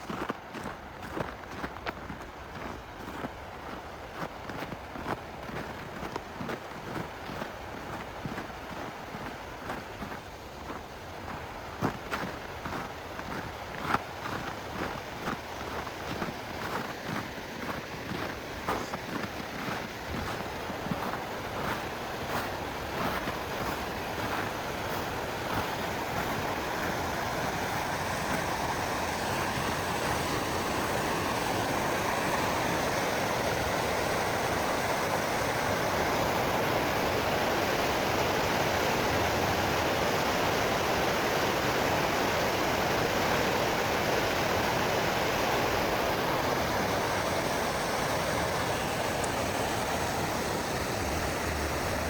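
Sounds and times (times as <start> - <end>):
river water rushing: 0.0 - 52.0.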